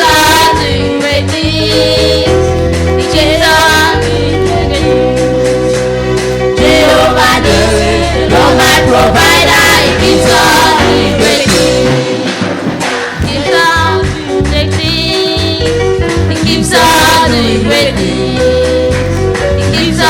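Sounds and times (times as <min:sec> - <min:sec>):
gospel singing with accompaniment: 0:00.0 - 0:20.0.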